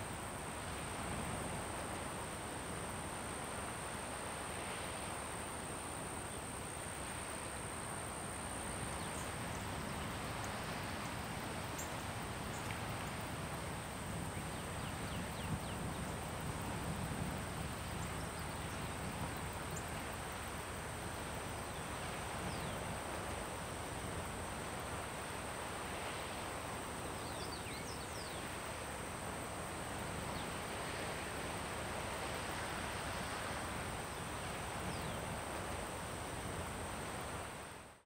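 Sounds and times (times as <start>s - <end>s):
soft constant hiss: 0.0s - 38.0s.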